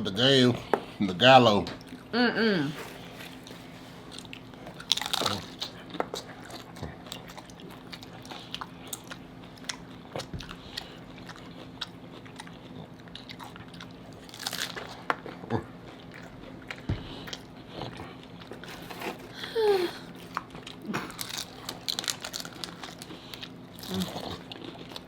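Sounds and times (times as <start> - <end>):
crunching taco shells: 2.8 - 25.0.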